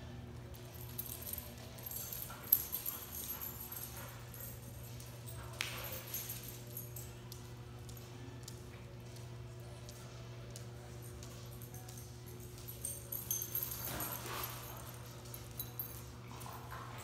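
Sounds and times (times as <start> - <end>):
dog claws clicking on floor: 0.6 - 17.0.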